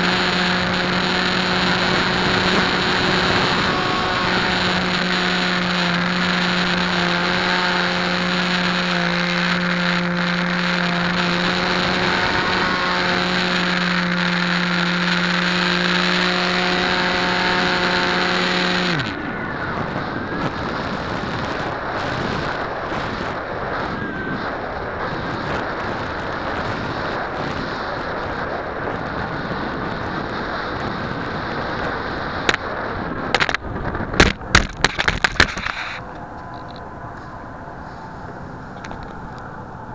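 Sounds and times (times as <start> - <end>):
electric motor and propeller: 0.0 - 39.9.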